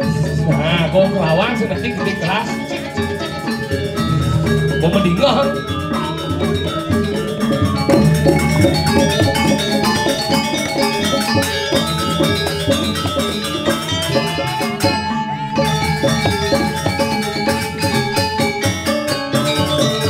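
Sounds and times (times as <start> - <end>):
gamelan music: 0.0 - 20.0.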